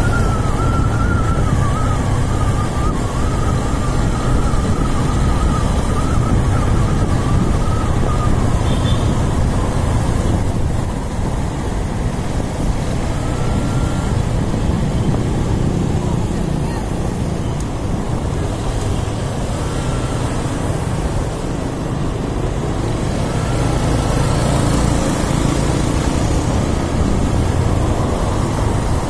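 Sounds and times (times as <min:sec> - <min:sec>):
motorcycle engine: 0:00.0 - 0:29.0
wind on microphone: 0:00.0 - 0:29.0.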